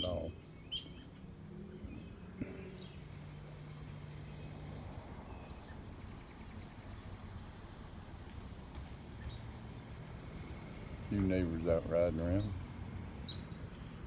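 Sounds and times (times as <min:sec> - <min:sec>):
passing vehicle engine: 0:00.9 - 0:14.0.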